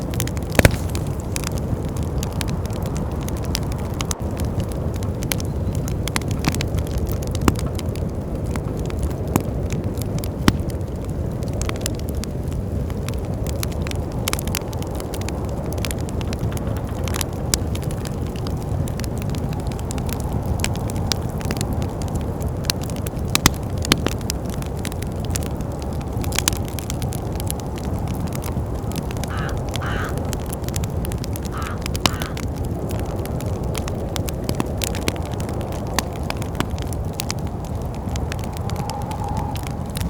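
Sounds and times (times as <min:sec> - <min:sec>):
low rumble of wind: 0:00.0 - 0:40.0
wood fire crackling and popping: 0:00.0 - 0:40.0.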